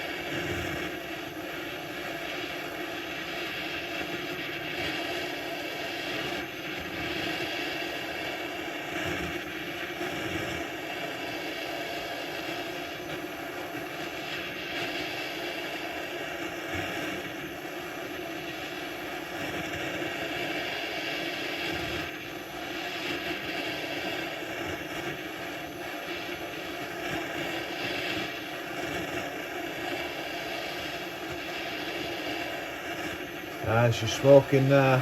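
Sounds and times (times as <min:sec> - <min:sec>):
blowtorch flame burning: 0:00.0 - 0:35.0.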